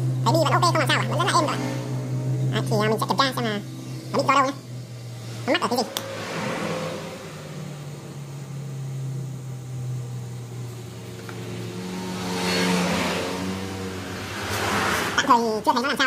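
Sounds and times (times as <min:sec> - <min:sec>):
wood router motor running: 0:00.0 - 0:15.2.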